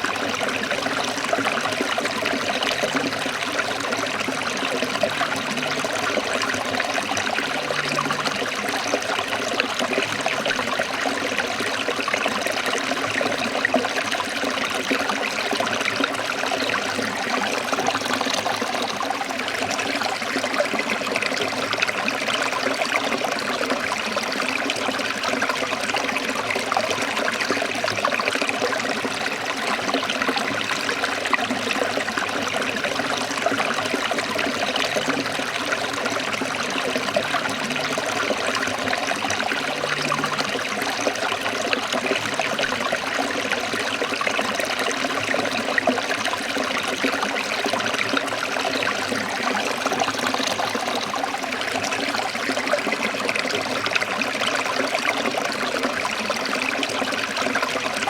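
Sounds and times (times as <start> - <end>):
stream trickling and splashing: 0.0 - 58.0.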